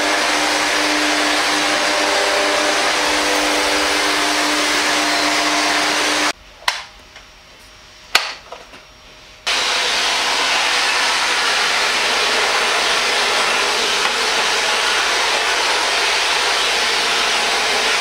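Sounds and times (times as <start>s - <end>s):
vacuum cleaner motor running: 0.0s - 6.4s, 9.5s - 18.0s.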